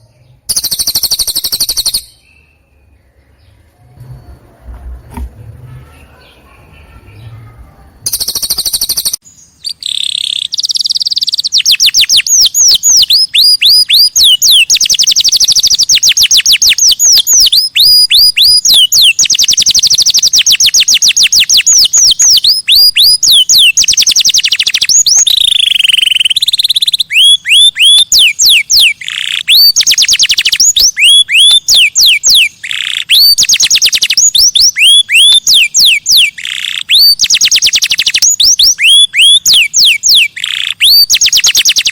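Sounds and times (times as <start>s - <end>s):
recorded songbird song: 0.0s - 41.9s.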